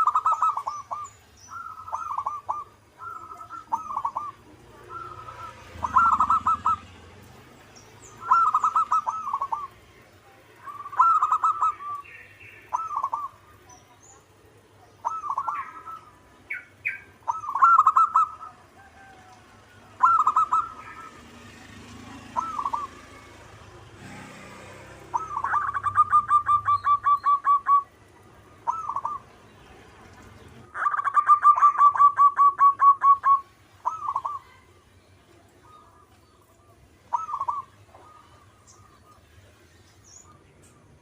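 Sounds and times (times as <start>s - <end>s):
dove cooing: 0.0s - 7.2s, 8.0s - 34.7s, 35.6s - 39.4s.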